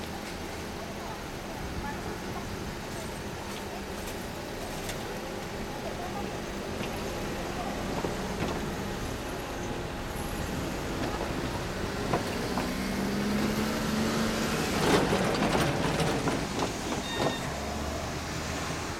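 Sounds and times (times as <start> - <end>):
freight train rumble: 0.0 - 18.9.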